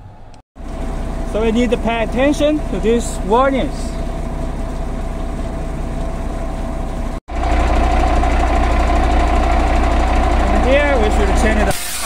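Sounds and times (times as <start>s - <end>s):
engine idling: 0.1s - 11.7s.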